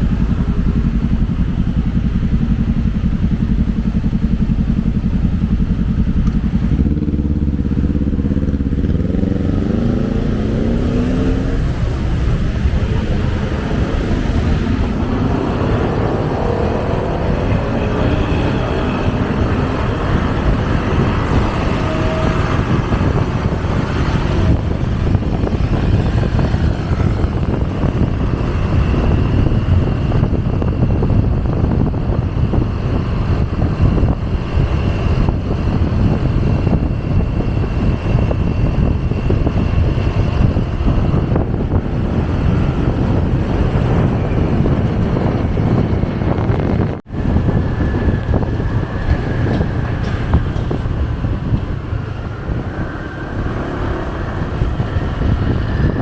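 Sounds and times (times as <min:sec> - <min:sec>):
road and traffic noise: 0:00.0 - 0:56.0
wind rushing over microphone: 0:00.0 - 0:56.0.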